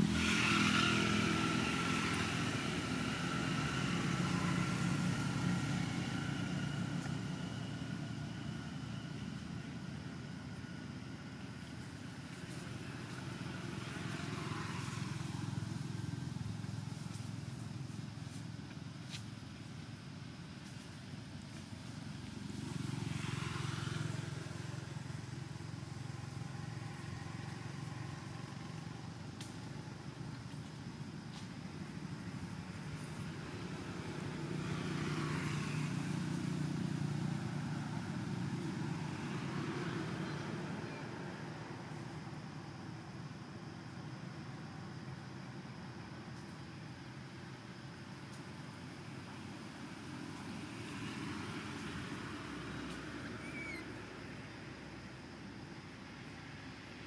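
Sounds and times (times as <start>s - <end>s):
passing vehicle engine rumble: 0.0s - 57.0s.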